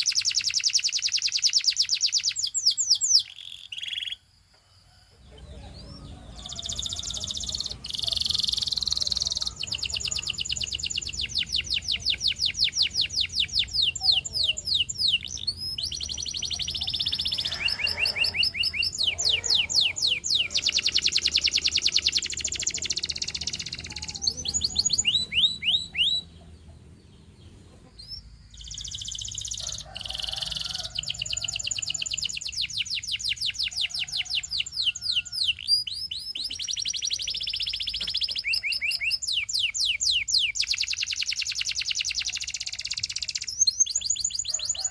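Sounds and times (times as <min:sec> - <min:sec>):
canary singing trills: 0:00.0 - 0:04.3, 0:04.9 - 0:44.9.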